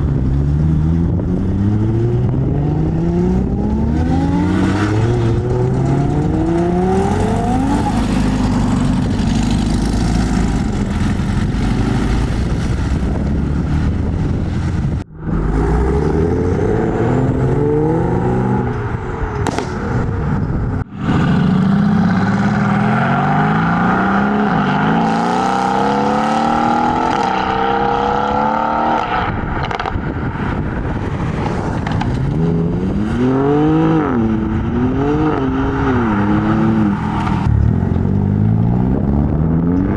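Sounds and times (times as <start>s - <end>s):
car engines revving and accelerating: 0.0s - 39.9s.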